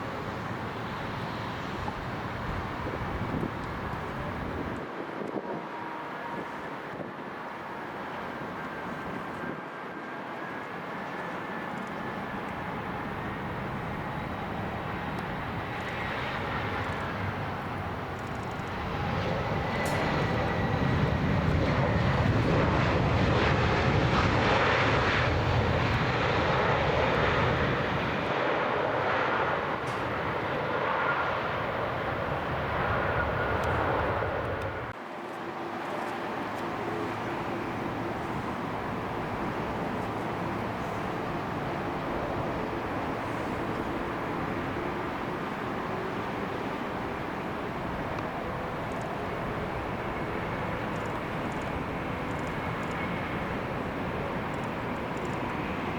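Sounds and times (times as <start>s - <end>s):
jet engines roaring past: 0.0s - 55.9s.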